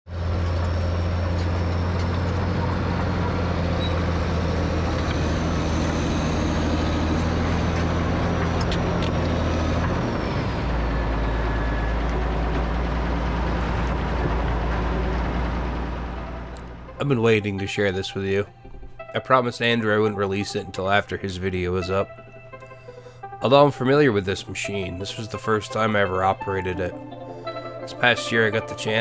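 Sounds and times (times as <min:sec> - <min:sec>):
diesel engine running: 0:00.1 - 0:29.0.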